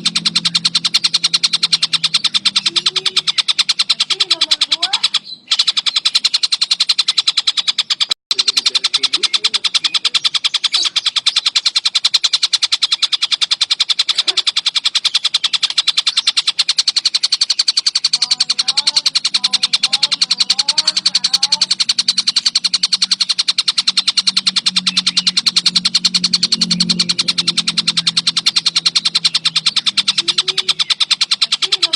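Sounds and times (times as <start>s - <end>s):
low hum: 0.0s - 5.5s, 8.4s - 31.9s
bird warbling phrase: 0.0s - 6.9s, 8.3s - 31.9s
bird fast high ticking call: 0.0s - 31.9s.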